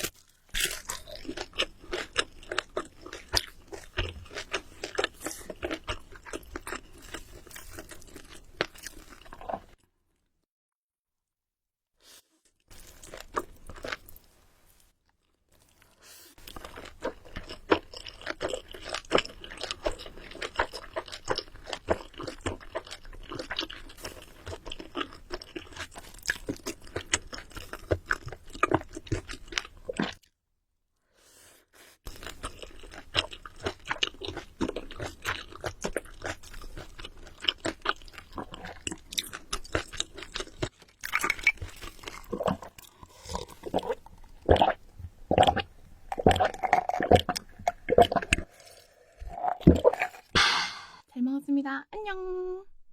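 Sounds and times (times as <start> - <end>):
chewing and crunching food: 0.0 - 10.0, 12.1 - 30.4, 31.8 - 50.3.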